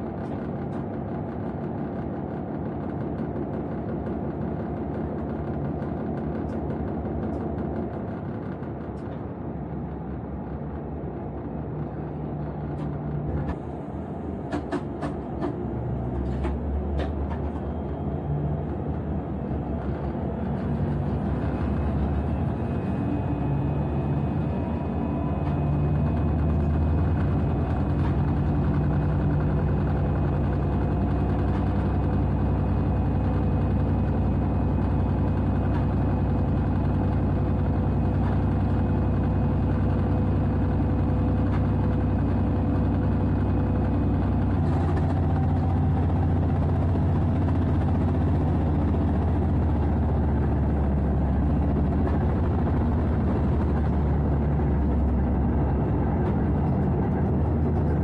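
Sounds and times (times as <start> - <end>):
locomotive engine drone: 0.0 - 58.0.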